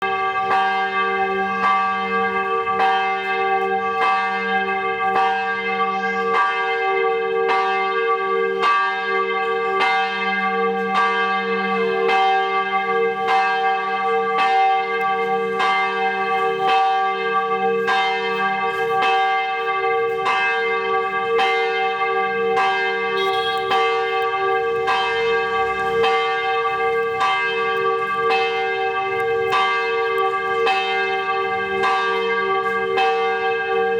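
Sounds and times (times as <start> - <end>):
church bell ringing: 0.0 - 33.9.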